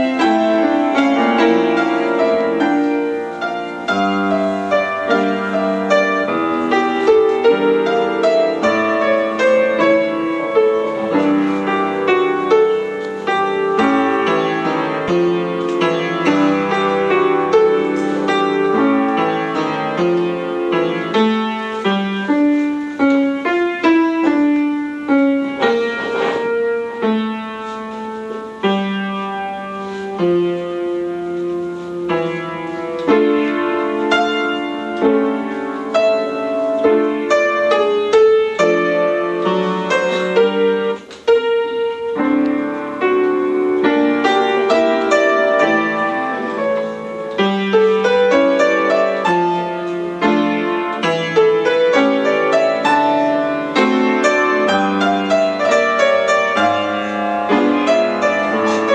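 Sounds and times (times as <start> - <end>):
background piano music: 0.0 - 58.9.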